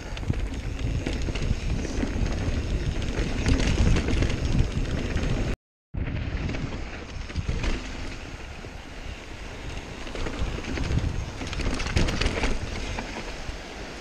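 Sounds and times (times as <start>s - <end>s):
bike rattling over rocks: 0.0s - 8.7s, 9.5s - 13.4s
bike tyres on trail: 0.0s - 14.0s
wind on microphone: 0.0s - 14.0s.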